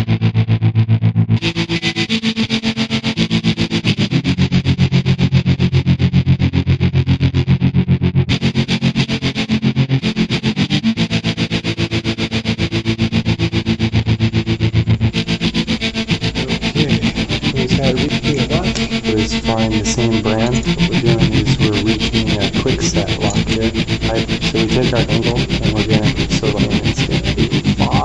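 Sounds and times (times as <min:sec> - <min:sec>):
pulsing distorted electric guitar: 0:00.0 - 0:28.0.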